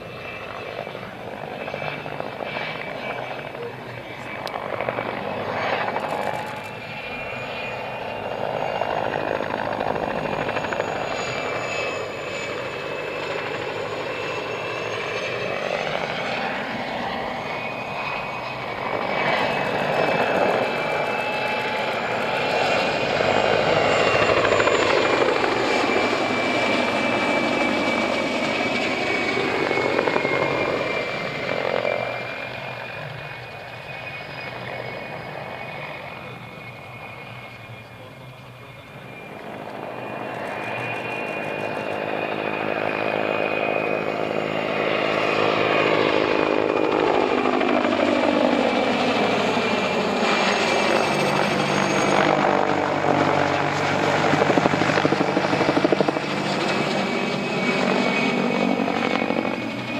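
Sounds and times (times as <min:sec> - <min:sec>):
helicopter flying: 0:00.0 - 0:59.9.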